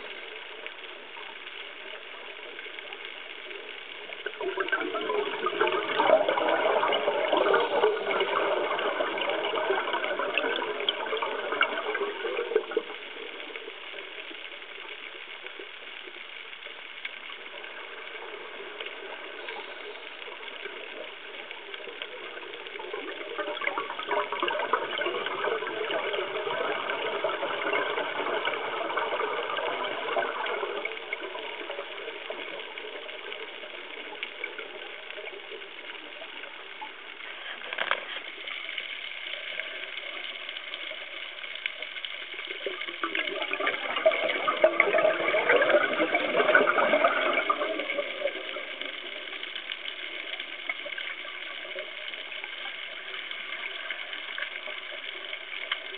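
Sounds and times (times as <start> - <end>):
underwater air bubbling: 0.0 - 55.9.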